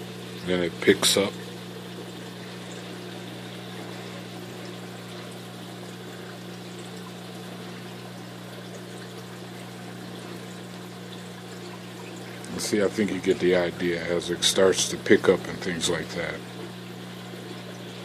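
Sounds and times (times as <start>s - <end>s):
aquarium pump hum: 0.0s - 18.0s
water pouring and trickling: 0.0s - 18.0s.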